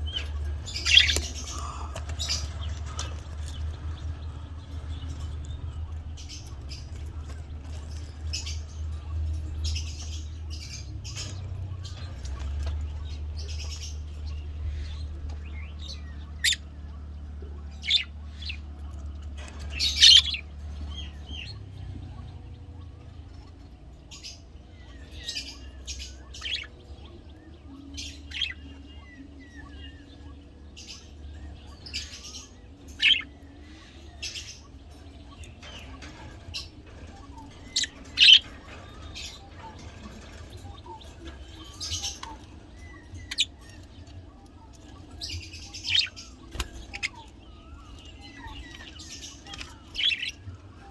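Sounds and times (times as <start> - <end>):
budgerigars chirping: 0.0 - 50.9
low steady hum: 0.0 - 50.9.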